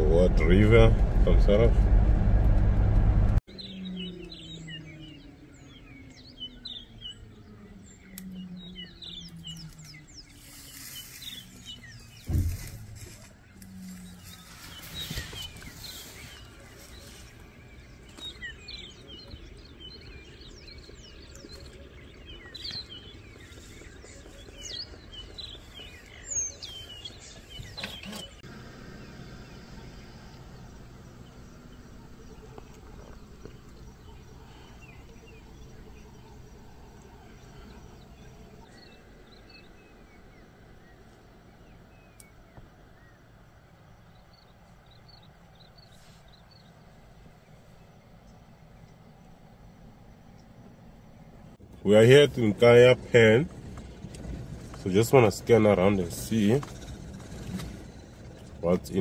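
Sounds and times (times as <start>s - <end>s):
wild birds chirping: 0.0s - 59.0s.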